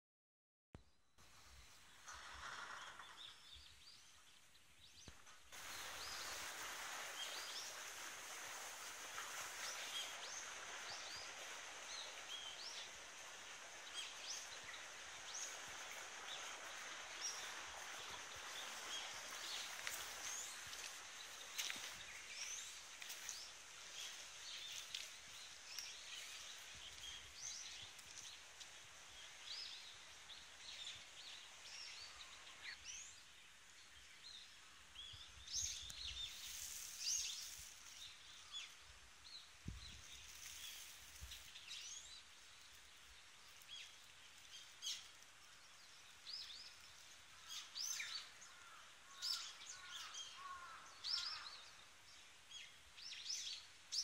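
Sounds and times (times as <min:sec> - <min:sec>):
faint outdoor background noise: 0:00.8 - 0:54.0
small birds chirping: 0:00.8 - 0:54.0.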